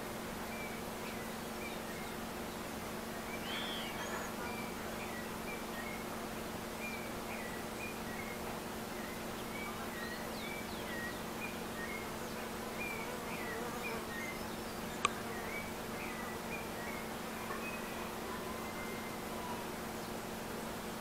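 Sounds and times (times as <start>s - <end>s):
low buzzing hum: 0.0s - 21.0s
small birds chirping: 0.5s - 21.0s.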